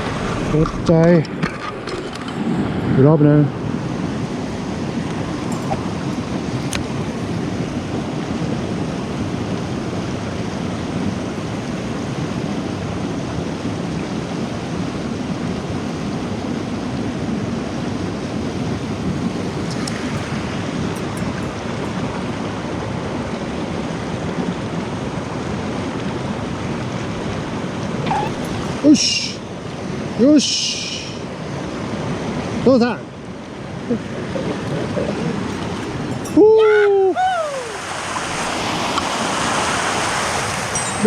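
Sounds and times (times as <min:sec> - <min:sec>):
river water rushing: 0:00.0 - 0:41.0.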